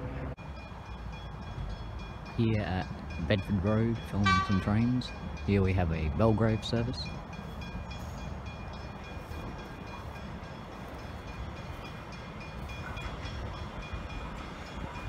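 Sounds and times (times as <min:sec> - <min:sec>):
electric train rumbling: 0:00.0 - 0:15.0
level crossing bells ringing: 0:00.4 - 0:15.0.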